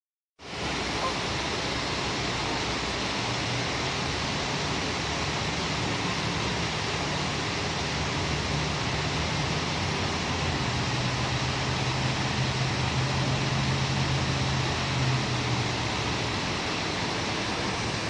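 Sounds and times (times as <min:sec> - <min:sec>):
waterfall rushing: 0:00.4 - 0:18.0.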